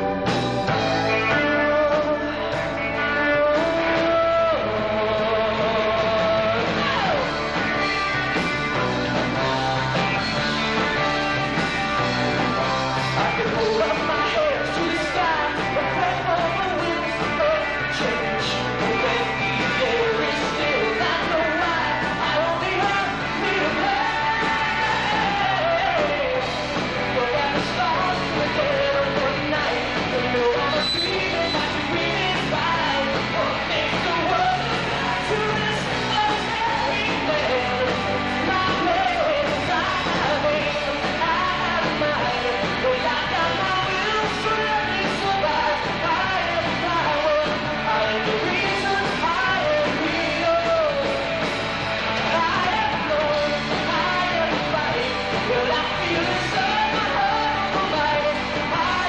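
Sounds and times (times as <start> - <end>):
rock band playing live: 0.0 - 59.0
man singing: 0.7 - 8.1, 12.5 - 59.0.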